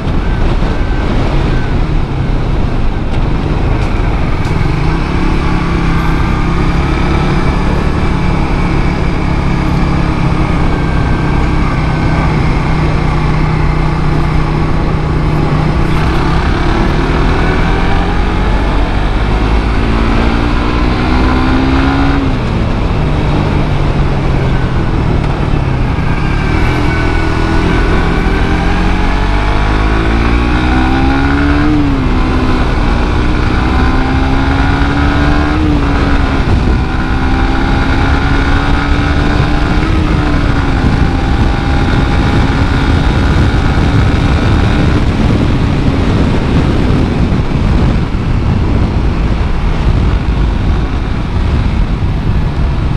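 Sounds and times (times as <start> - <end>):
motorcycle engine accelerating: 0.0 - 52.9
wind and road noise: 0.0 - 52.9.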